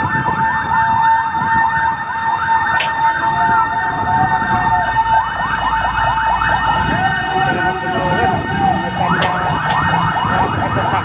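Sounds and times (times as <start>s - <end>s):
fast yelping siren: 0.0s - 11.0s
steady siren tone: 0.0s - 11.0s.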